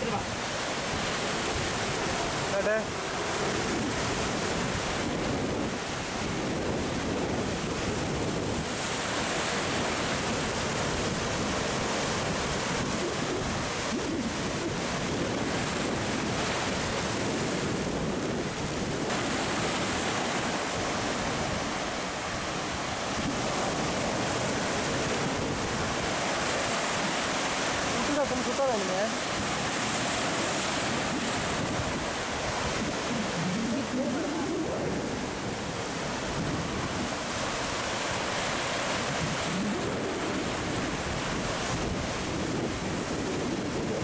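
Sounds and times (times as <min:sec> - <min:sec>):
surf washing over rocks: 0:00.0 - 0:44.0.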